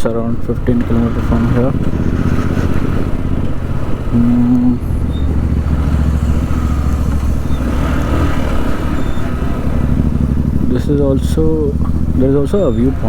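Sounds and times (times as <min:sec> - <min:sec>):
motorcycle engine running: 0:00.0 - 0:13.0
steady low tone: 0:00.0 - 0:13.0.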